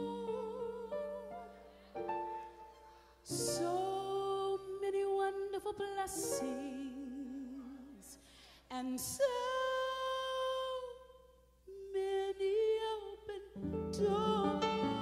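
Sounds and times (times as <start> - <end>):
woman singing gospel solo: 0.0 - 1.6, 3.2 - 15.0.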